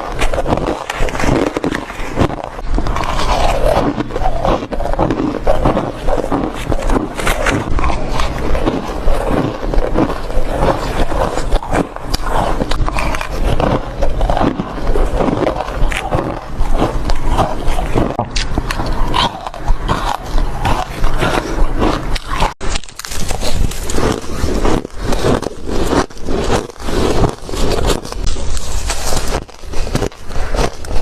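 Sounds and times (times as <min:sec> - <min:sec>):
crunching of ice being chewed: 0:00.0 - 0:31.0.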